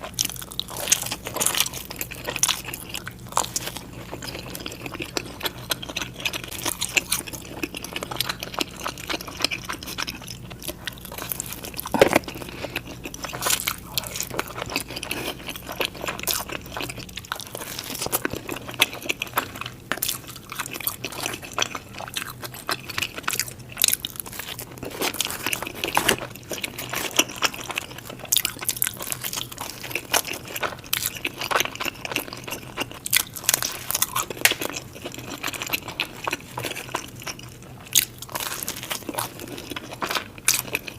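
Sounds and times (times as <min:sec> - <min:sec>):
chewing and crunching crust: 0:00.0 - 0:40.9
low background hum: 0:00.0 - 0:40.9.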